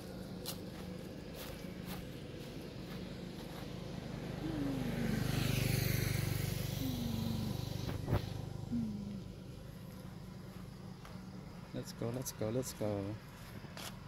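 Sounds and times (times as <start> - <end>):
motor vehicle passing: 0.0 - 11.8
steady low hum: 0.0 - 14.0.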